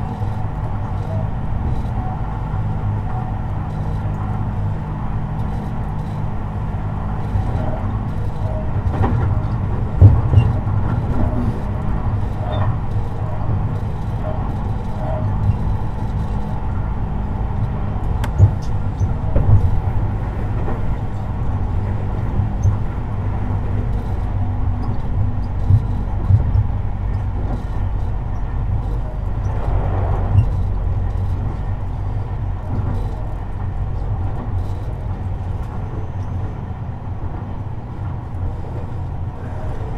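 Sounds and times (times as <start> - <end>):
wheels rumbling on track: 0.0 - 39.9.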